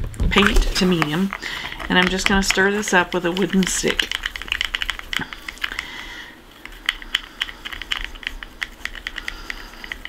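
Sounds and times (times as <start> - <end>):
stir stick scraping plastic cup: 0.3 - 10.0.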